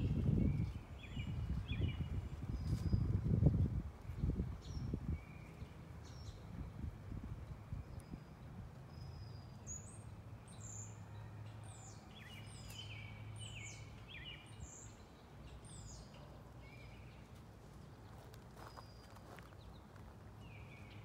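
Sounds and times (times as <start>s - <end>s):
songbirds chirping and whistling: 0.0s - 21.0s.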